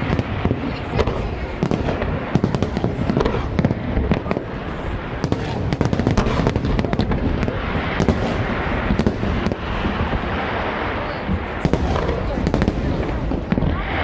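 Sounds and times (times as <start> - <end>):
fireworks bursts and crackles: 0.0 - 14.0.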